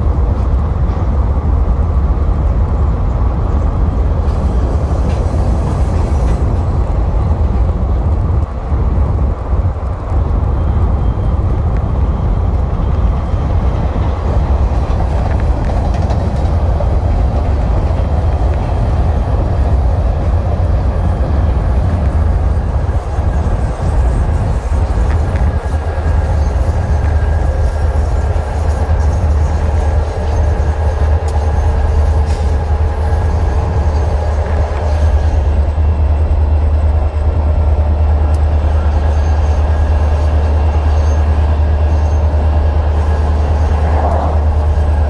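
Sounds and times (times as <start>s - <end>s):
train running along track: 0.0s - 45.0s.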